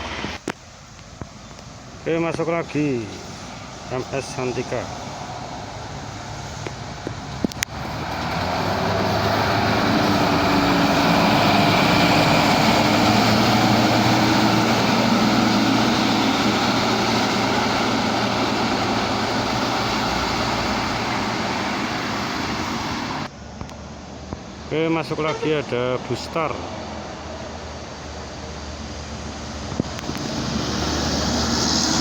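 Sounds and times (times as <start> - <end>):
bus diesel engine: 0.0 - 32.0.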